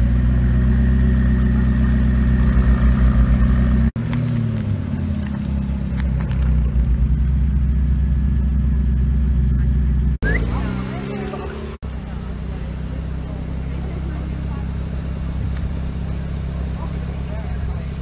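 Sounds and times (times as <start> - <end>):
car engine at low revs: 0.0 - 18.0.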